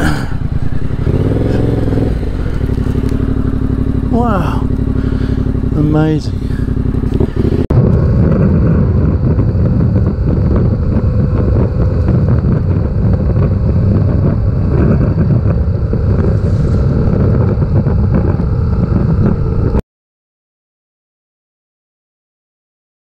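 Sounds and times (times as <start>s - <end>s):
motorcycle engine running: 0.0s - 19.8s
wind noise on microphone: 0.0s - 19.8s.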